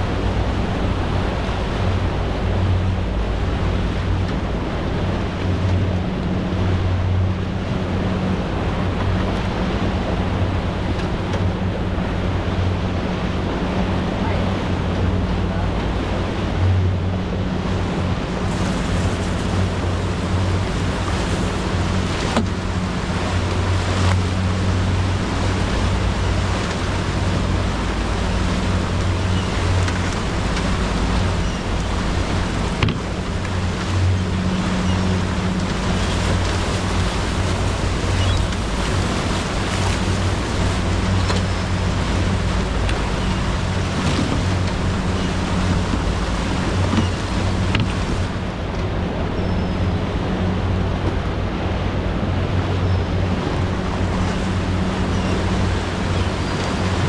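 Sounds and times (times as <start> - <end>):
boat wake rushing: 0.0 - 57.0
outboard motor humming: 0.0 - 57.0
wind: 0.0 - 57.0.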